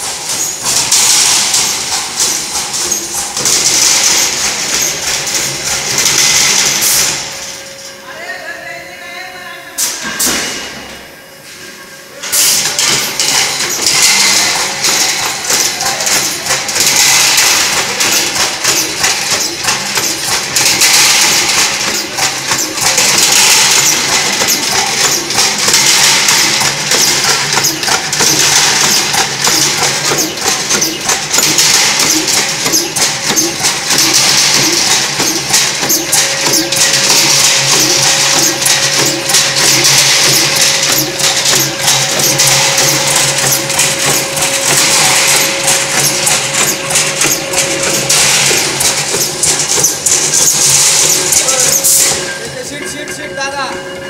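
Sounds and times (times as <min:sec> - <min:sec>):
power press clattering: 0:00.0 - 0:07.7, 0:12.3 - 0:52.5.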